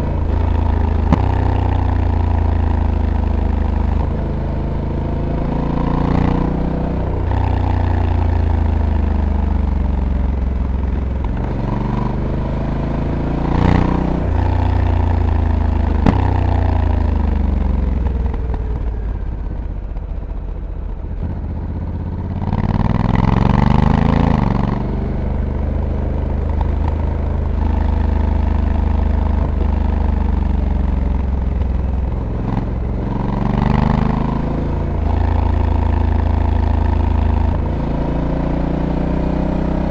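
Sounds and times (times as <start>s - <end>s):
motorcycle engine pulling hard: 0.0s - 39.9s.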